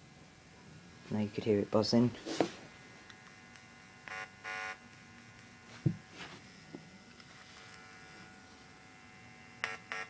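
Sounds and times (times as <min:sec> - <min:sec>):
faint steady hum: 0:00.0 - 0:10.0
speakers buzzing: 0:01.1 - 0:10.0.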